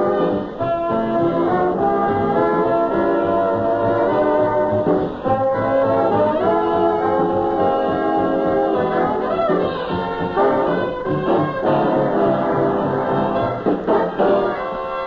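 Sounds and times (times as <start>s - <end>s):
big band jazz brass chords: 0.0s - 15.0s.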